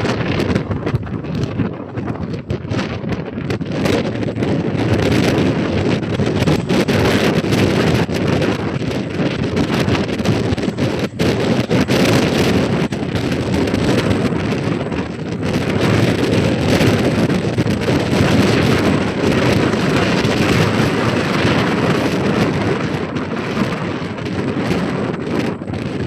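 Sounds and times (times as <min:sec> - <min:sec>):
gale wind buffeting microphone: 0:00.0 - 0:26.0.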